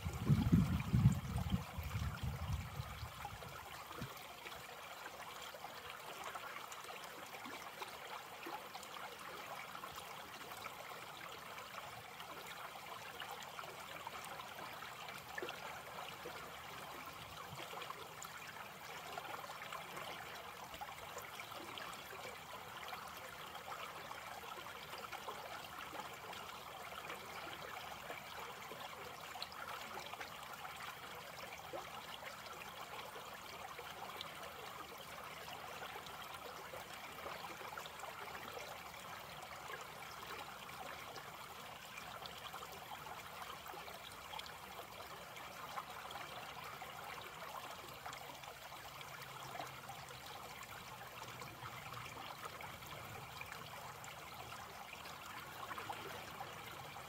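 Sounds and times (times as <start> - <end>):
creek trickling over stones: 0.0 - 57.0.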